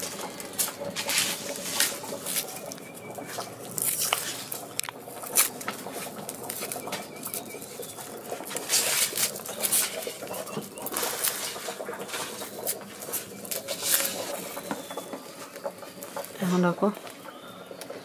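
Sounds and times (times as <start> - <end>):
onion skin crackling and rustling: 0.0 - 17.2.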